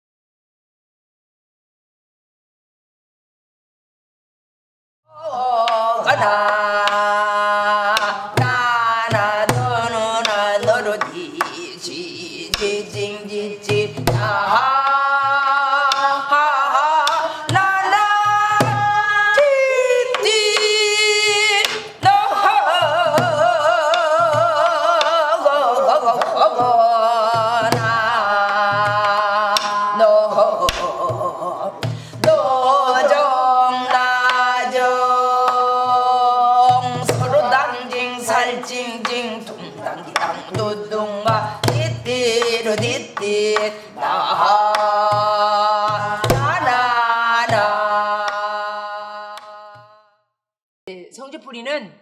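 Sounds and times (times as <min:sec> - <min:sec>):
woman singing wordless melody: 0:05.1 - 0:50.2.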